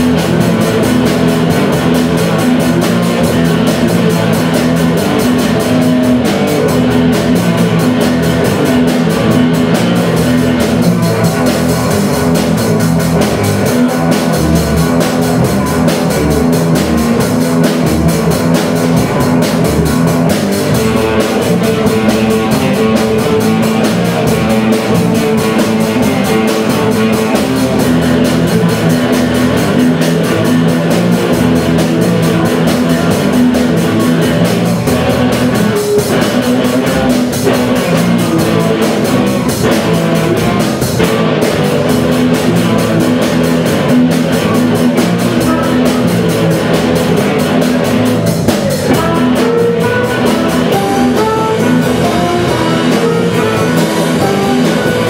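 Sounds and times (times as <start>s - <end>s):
drum kit beat: 0.0s - 55.0s
rock band playing: 0.0s - 55.0s.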